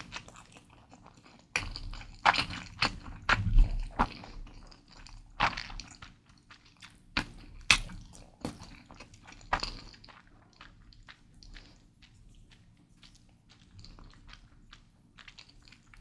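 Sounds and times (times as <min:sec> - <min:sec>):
chewing noodles: 0:00.0 - 0:16.0.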